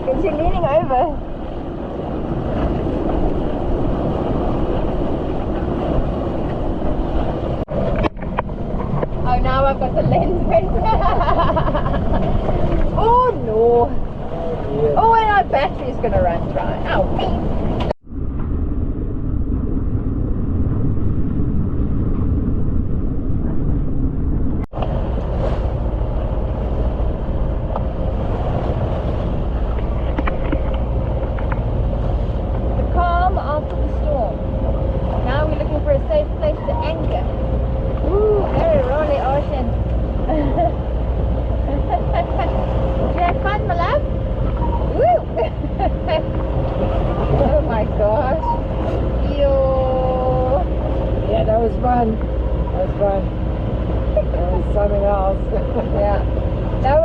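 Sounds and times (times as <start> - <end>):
strong wind on microphone: 0.0 - 57.0.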